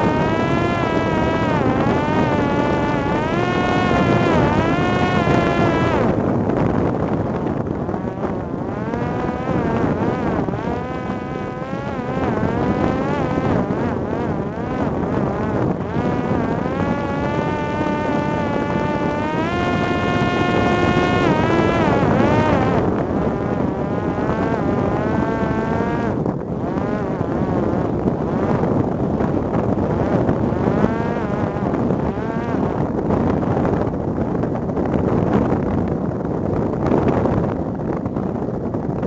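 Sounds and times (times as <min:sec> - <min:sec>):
drone propeller buzzing: 0:00.0 - 0:38.0.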